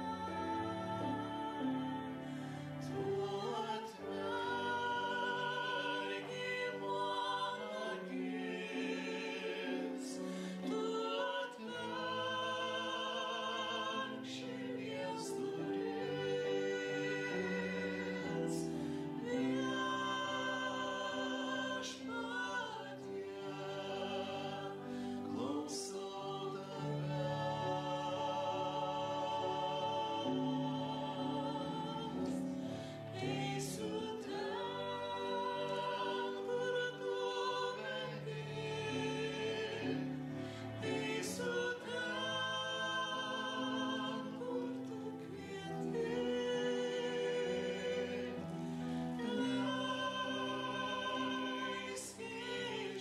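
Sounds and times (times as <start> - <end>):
woman singing a hymn: 0.0 - 53.0.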